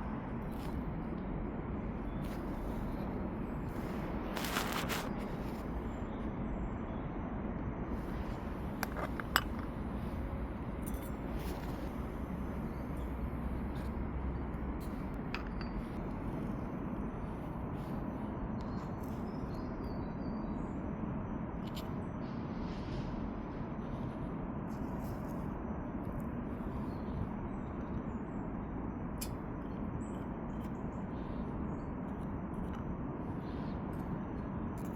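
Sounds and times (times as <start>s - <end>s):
outdoor background noise: 0.0s - 34.9s.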